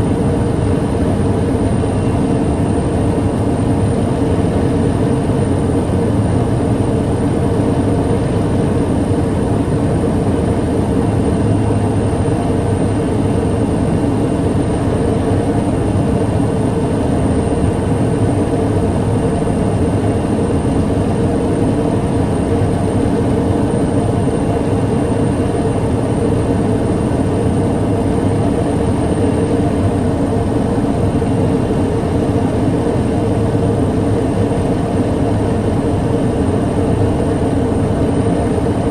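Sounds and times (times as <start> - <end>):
turboprop engine droning: 0.0 - 38.9.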